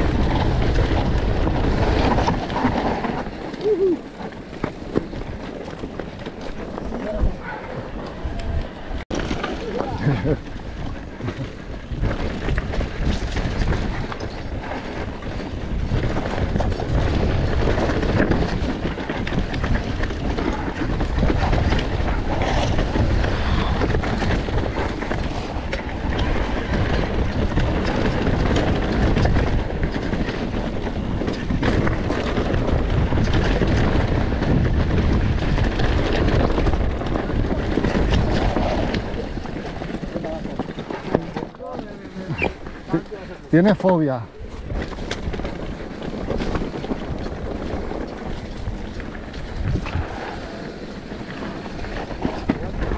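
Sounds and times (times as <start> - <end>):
dirt bike engine running: 0.0 - 8.0, 9.1 - 52.9
bike knocks and rattles: 0.0 - 8.2, 9.1 - 52.9.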